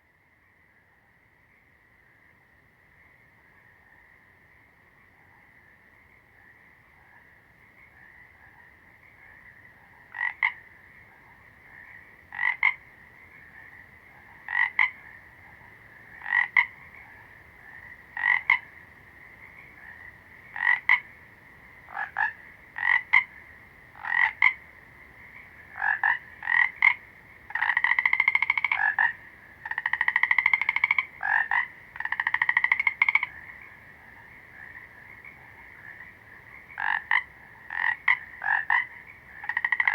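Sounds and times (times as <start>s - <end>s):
frog croaking: 0.0s - 39.9s.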